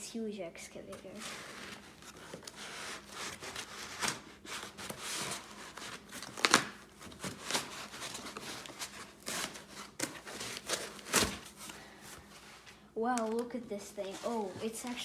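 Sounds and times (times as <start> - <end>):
cardboard and plastic rustling: 0.8 - 15.0.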